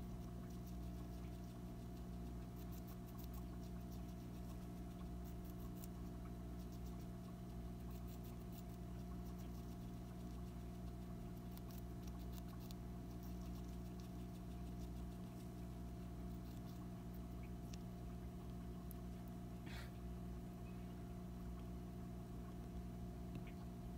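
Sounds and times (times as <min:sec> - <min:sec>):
hamster nibbling and crunching: 0:00.0 - 0:23.9
low electrical hum: 0:00.0 - 0:23.9.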